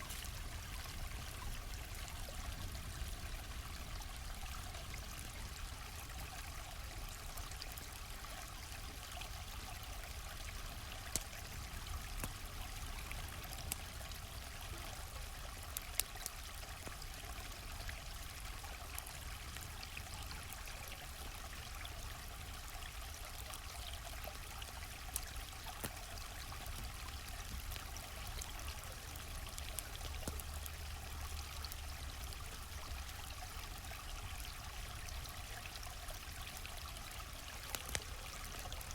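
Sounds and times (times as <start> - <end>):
campfire crackling and popping: 0.0 - 38.9
stream flowing: 0.0 - 38.9.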